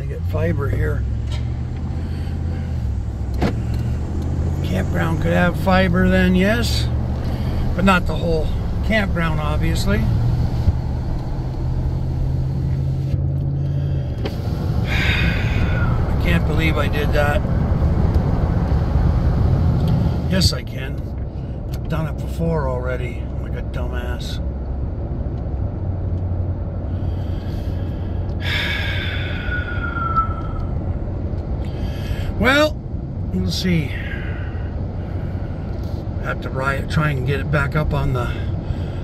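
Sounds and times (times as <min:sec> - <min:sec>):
road noise: 0:00.0 - 0:39.0
truck engine rumble: 0:00.0 - 0:39.0.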